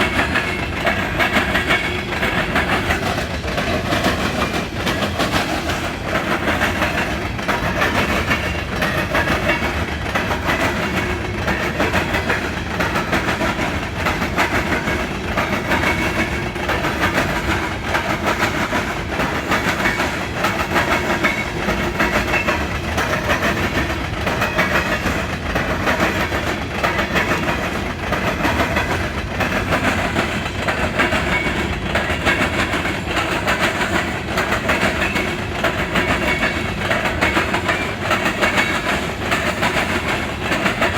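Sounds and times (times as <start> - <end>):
train wheels clattering over crossing: 0.0 - 40.9.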